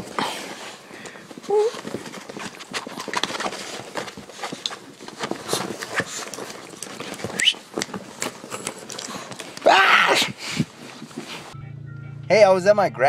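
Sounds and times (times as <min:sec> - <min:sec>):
paws and hand scuffling: 0:00.0 - 0:11.6.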